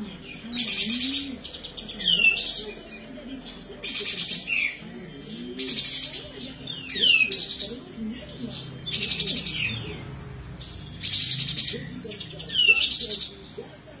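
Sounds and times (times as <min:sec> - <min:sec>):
bird singing rattling trills: 0:00.0 - 0:13.6.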